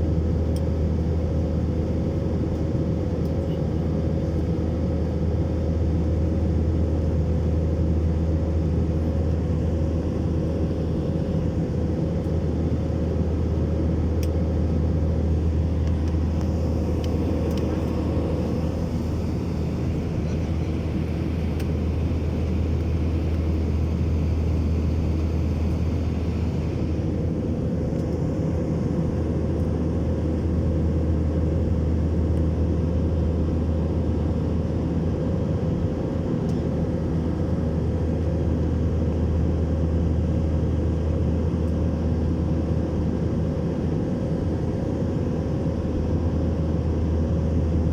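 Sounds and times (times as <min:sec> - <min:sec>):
airplane engines droning: 0:00.0 - 0:47.9.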